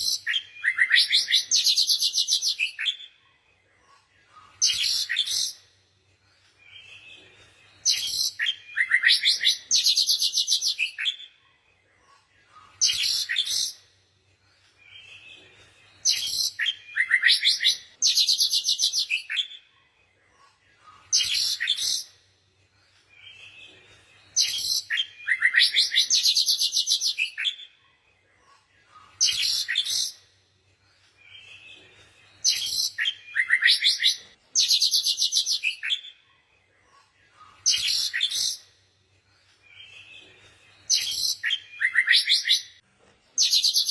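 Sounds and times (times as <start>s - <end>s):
songbird chirping and trilling: 0.0s - 42.8s, 43.4s - 43.9s.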